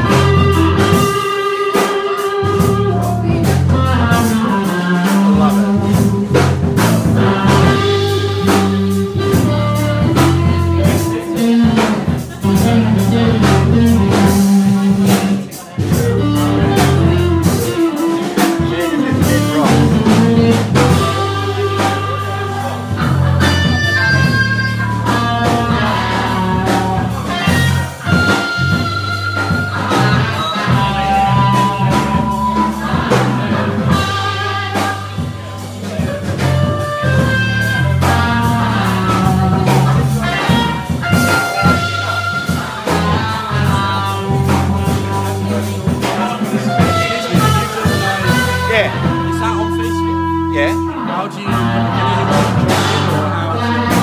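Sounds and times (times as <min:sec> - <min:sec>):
drum kit playing: 0:00.0 - 0:54.0
electric bass line: 0:00.0 - 0:54.0
electric guitar melody: 0:00.0 - 0:54.0.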